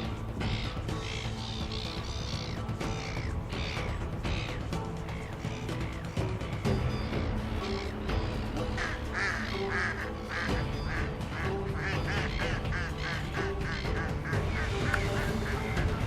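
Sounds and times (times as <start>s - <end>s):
background music: 0.0s - 16.0s
birds calling: 0.0s - 16.0s.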